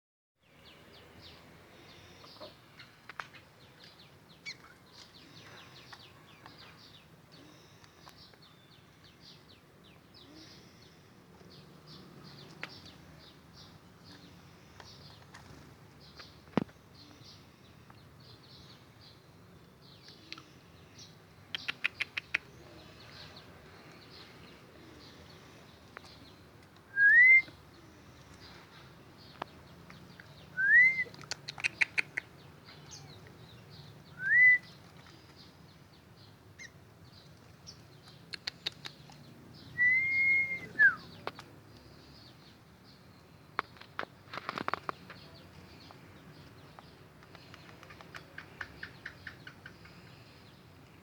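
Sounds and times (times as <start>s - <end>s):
small birds chirping: 0.4s - 51.0s.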